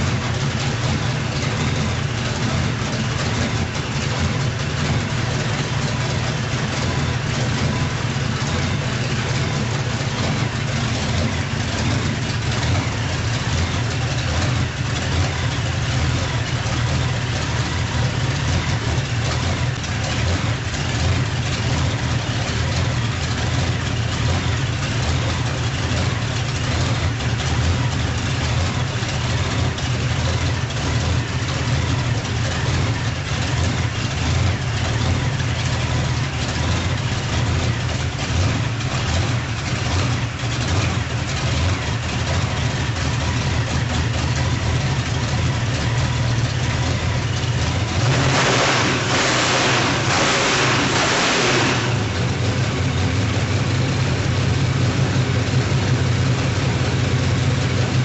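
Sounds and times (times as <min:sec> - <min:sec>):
radial engine rumbling: 0:00.0 - 0:58.0.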